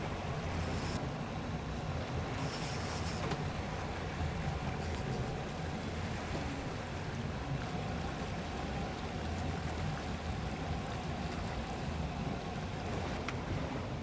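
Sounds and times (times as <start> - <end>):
boat engine drone: 0.0 - 14.0
water rushing along hull: 0.0 - 14.0.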